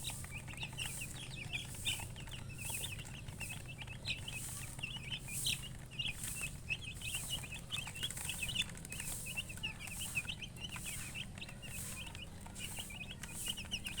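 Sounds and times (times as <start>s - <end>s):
baby chicks peeping: 0.0s - 14.0s.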